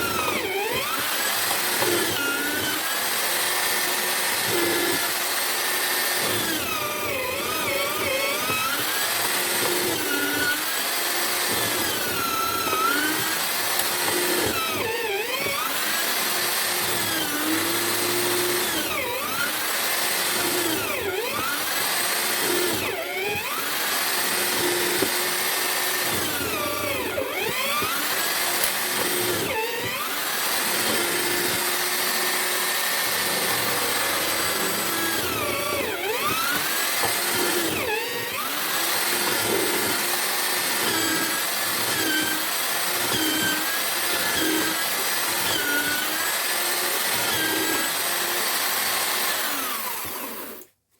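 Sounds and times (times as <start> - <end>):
drill motor cutting wood: 0.0 - 50.8.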